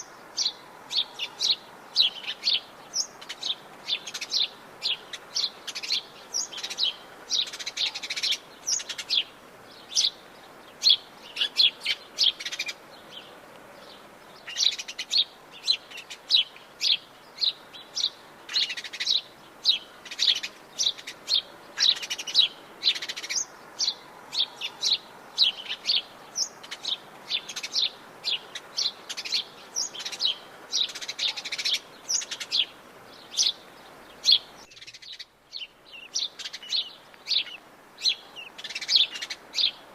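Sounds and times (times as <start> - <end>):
birds chirping and singing: 0.0 - 39.9
faint background hiss: 0.0 - 39.9.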